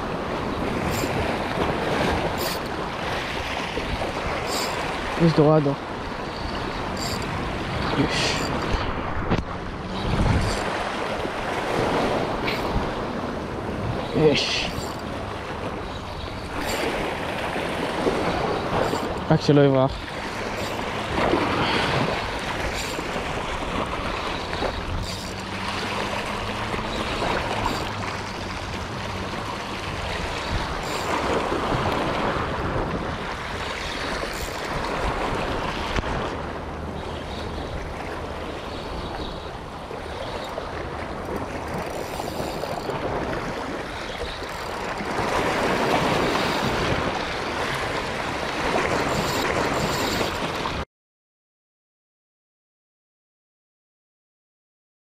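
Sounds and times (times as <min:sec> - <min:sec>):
sea water washing: 0:00.0 - 0:50.8
wind buffeting microphone: 0:00.0 - 0:50.8.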